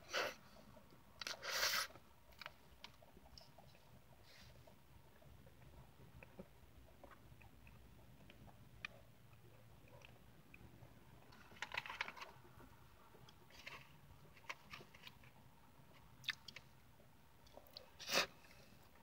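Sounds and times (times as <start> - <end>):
quiet chewing: 0.0 - 19.0.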